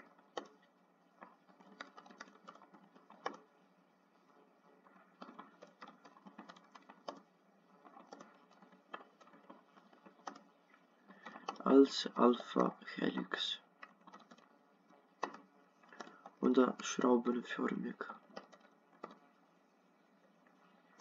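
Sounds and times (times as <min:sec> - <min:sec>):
faint typing on a keyboard: 0:00.0 - 0:21.0.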